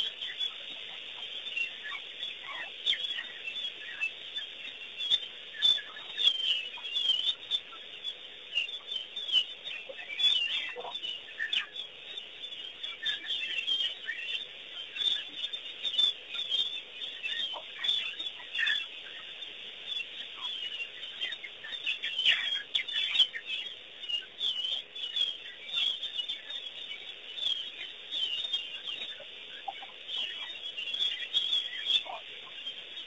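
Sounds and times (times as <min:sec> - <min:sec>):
birds chirping chorus: 0:00.0 - 0:33.0.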